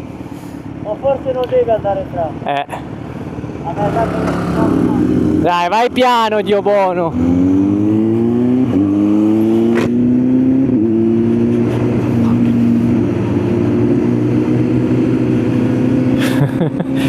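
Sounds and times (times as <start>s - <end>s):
motorcycle engine accelerating: 2.7s - 17.0s.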